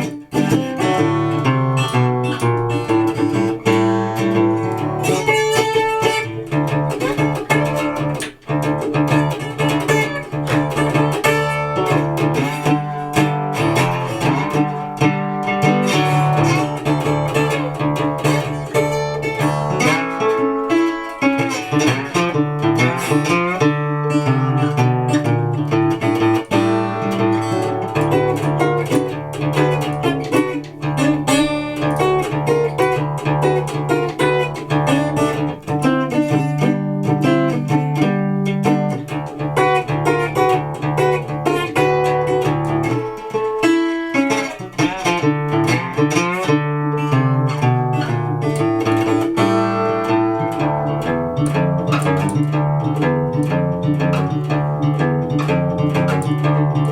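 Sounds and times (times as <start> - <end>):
resonator guitar picked notes: 0.0 - 56.9.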